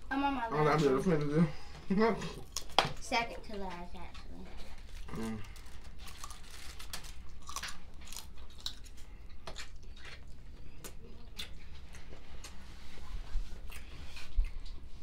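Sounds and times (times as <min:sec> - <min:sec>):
people chewing crunchy food: 0:00.8 - 0:15.0.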